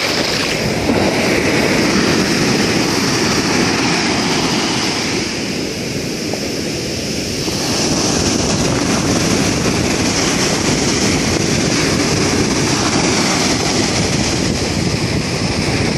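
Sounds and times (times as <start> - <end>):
sea surf breaking on sand: 0.0 - 15.9.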